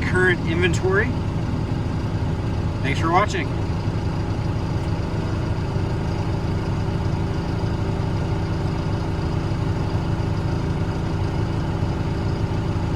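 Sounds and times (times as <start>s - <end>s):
diesel engine idling: 0.0s - 12.9s.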